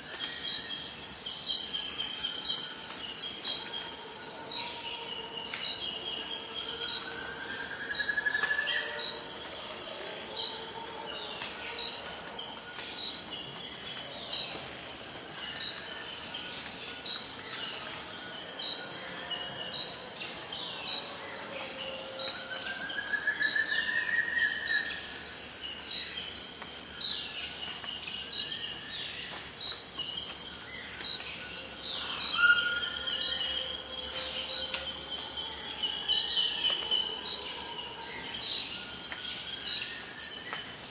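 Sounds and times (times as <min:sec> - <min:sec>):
insect drone: 0:00.0 - 0:40.9.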